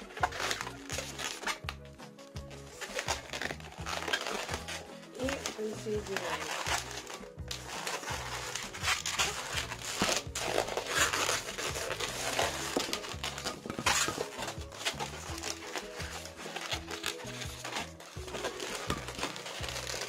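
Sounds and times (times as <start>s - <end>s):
balloons squeaking and crinkling: 0.0s - 20.0s
faint background music: 0.0s - 20.0s.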